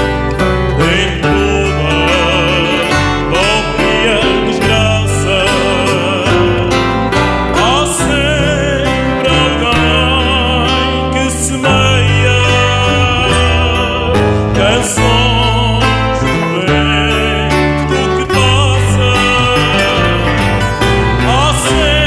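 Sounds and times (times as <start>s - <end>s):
man singing with vibrato: 0.0s - 22.0s
plucked acoustic guitars: 0.0s - 22.0s.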